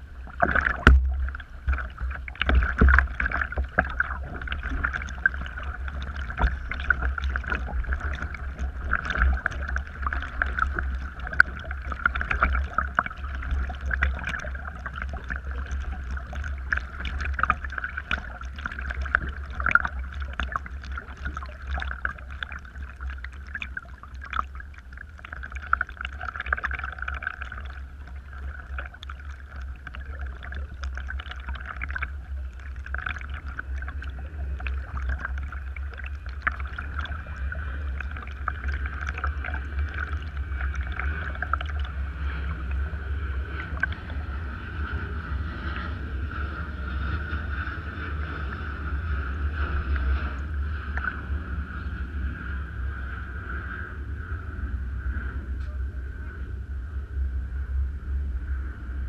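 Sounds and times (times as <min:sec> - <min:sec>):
water splashing around kayak: 0:00.0 - 0:56.6
low rumble: 0:00.0 - 0:59.0.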